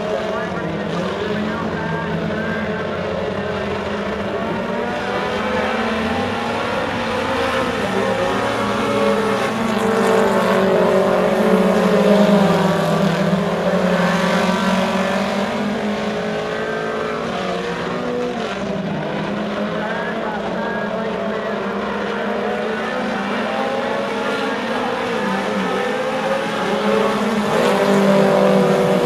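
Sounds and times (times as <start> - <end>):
race car engines passing: 0.0 - 29.0.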